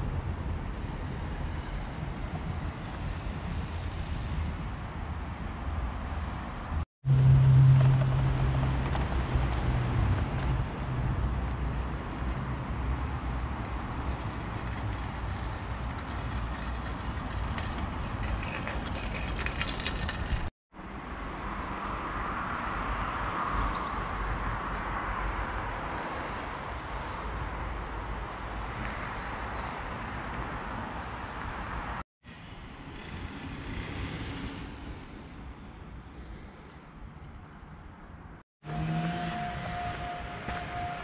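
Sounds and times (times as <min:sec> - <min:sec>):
distant road traffic: 0:00.0 - 0:41.0.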